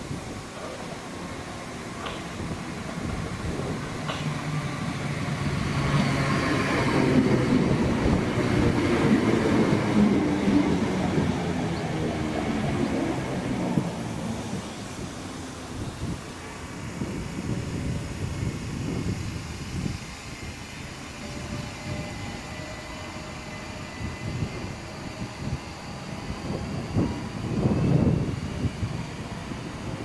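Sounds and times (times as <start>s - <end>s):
electric train passing: 0.0s - 30.0s.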